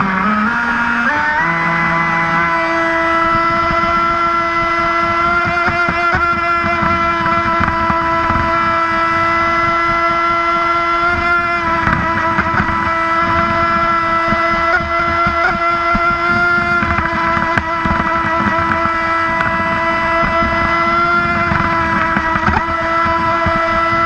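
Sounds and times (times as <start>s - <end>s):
high electric motor whine: 0.0s - 24.0s.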